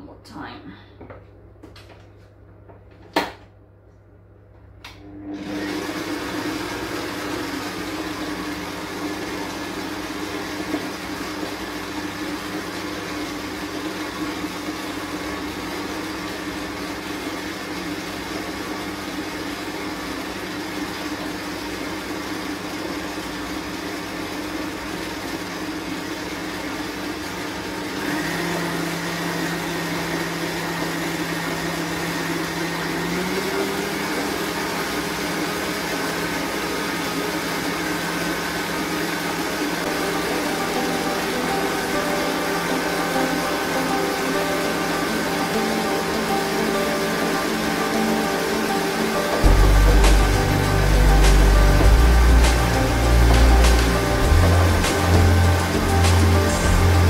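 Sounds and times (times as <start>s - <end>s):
stand mixer motor humming: 5.0s - 57.0s.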